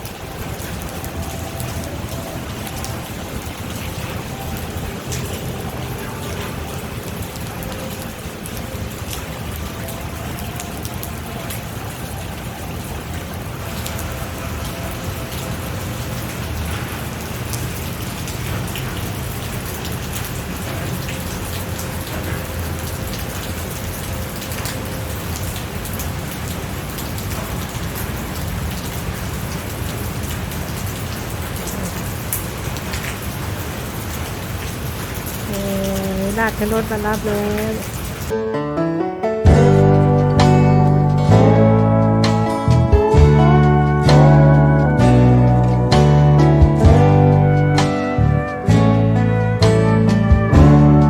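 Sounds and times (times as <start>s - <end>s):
raindrops ticking on surface: 0.0s - 38.4s, 39.9s - 50.7s
steady rain falling: 0.0s - 38.4s, 39.5s - 51.0s.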